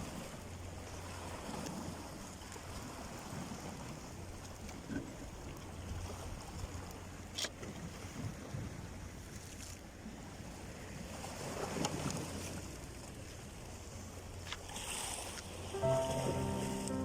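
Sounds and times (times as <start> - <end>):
sea noise: 0.0 - 17.0.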